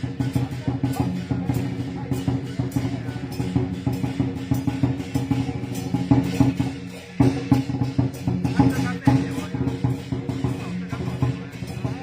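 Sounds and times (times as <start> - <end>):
fast dense drumming: 0.0 - 12.0.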